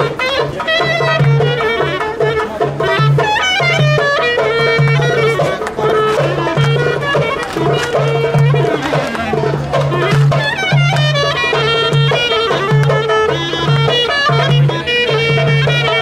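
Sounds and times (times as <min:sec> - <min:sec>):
clarinet playing fast melody: 0:00.0 - 0:16.0.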